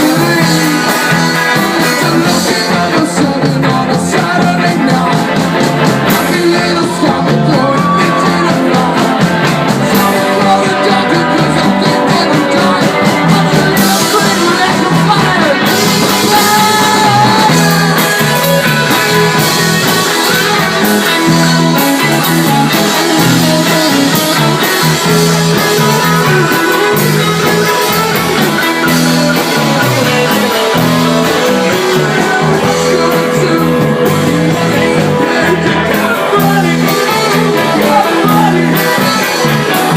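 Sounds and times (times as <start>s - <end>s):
electric guitar: 0.0s - 39.9s
person singing: 0.0s - 39.9s
steady drum beat: 0.0s - 39.9s.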